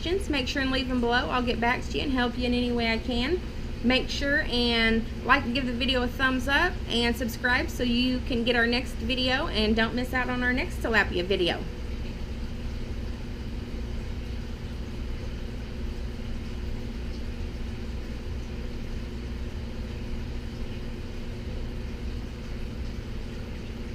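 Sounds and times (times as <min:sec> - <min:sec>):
aquarium filter humming: 0:00.0 - 0:23.9.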